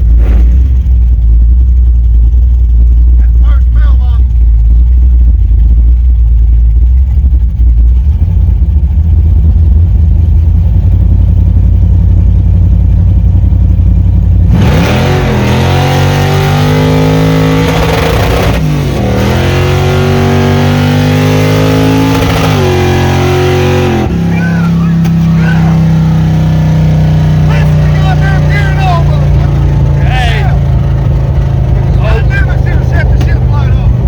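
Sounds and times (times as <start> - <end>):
truck engine accelerating: 0.0 - 34.0.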